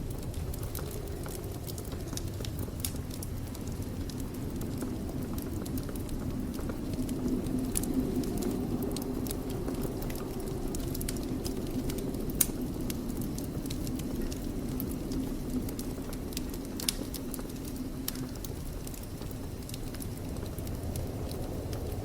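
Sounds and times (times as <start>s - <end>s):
fire flames rumbling: 0.0s - 22.0s
wood crackling and popping: 0.0s - 22.0s.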